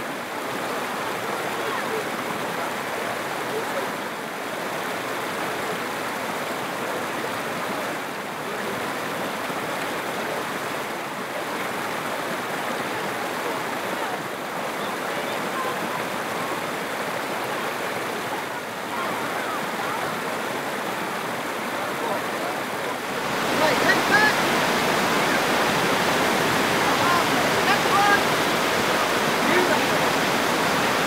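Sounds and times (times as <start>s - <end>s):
stream pouring over waterfall: 0.0s - 31.0s.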